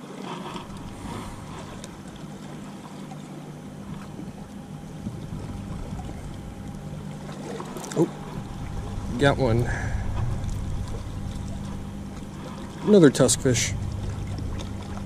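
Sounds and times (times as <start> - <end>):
distant motor droning: 0.0 - 15.0.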